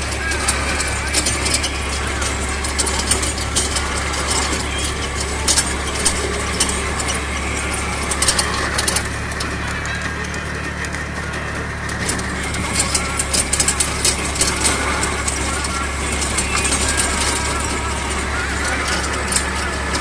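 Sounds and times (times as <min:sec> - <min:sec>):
sharp clicks and rattles: 0:00.0 - 0:20.0
tractor diesel engine running: 0:00.0 - 0:20.0.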